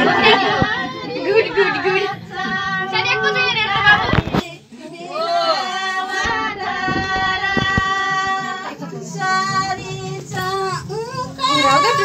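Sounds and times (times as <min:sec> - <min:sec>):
girls singing in unison: 0:00.0 - 0:12.0.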